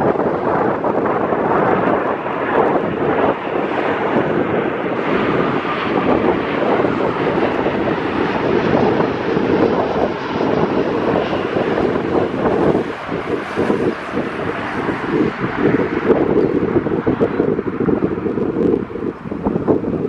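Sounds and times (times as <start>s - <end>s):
jet airliner rumbling overhead: 0.0s - 20.0s
wind buffeting microphone: 0.0s - 20.0s.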